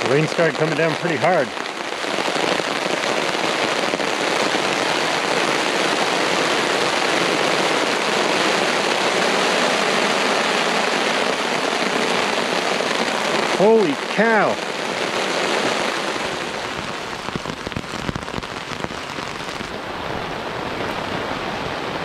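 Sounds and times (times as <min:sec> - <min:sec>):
heavy rain on a tarp: 0:00.0 - 0:22.0.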